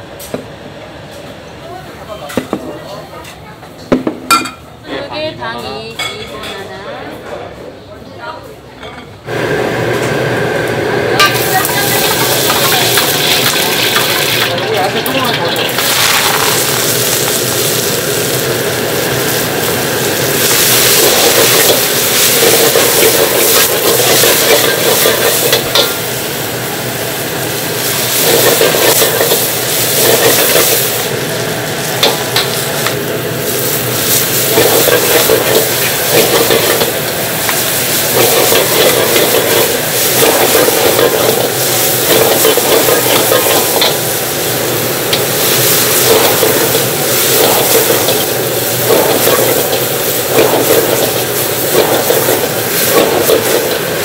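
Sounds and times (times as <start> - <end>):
vegetables sizzling in a wok: 9.3 - 54.0.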